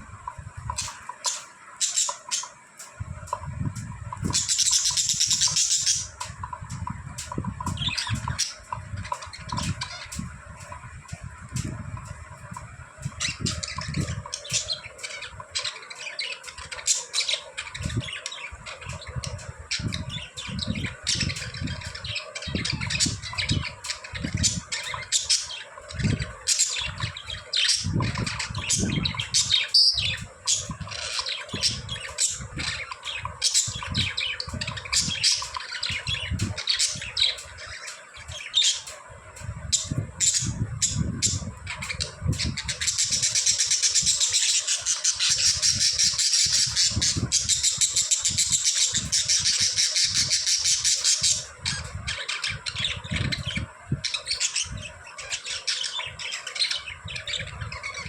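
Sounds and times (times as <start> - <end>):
budgerigars chirping and squawking: 0.6 - 58.0.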